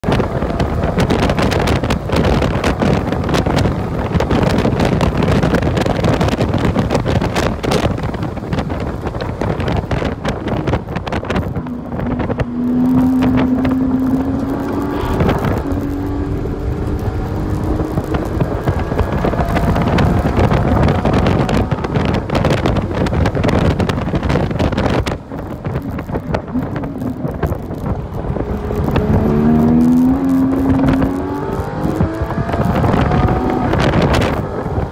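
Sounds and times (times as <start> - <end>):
car engine accelerating: 0.0 - 34.9
rushing wind and road noise: 0.0 - 34.9.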